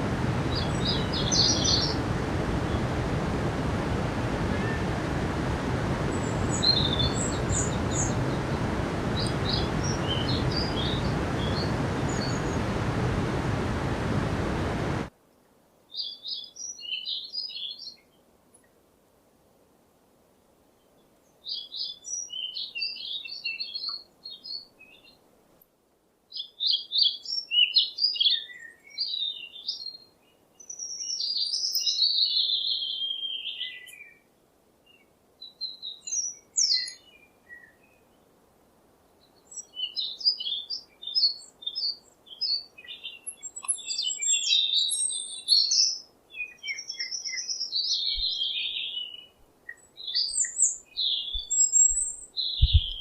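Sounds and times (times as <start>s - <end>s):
songbird chirps and trills: 0.0s - 15.1s, 15.9s - 18.8s, 20.8s - 25.2s, 26.3s - 53.0s.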